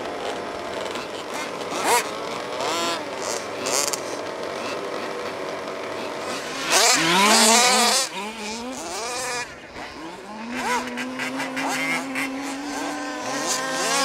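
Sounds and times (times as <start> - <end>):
small two-stroke engines revving: 0.0 - 14.0.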